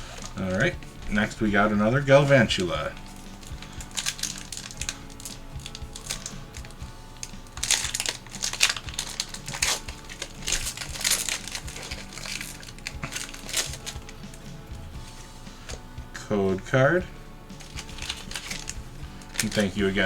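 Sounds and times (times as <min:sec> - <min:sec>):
foil wrapper crinkling and tearing: 0:00.0 - 0:15.8, 0:17.5 - 0:20.0
quiet background music: 0:00.0 - 0:20.0.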